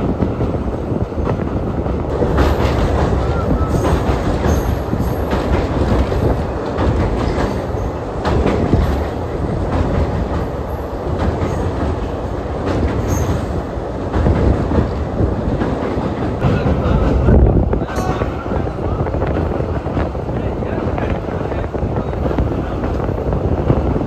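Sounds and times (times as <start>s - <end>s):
train clatter: 0.0s - 24.0s
train wheels rumbling on track: 0.0s - 24.0s.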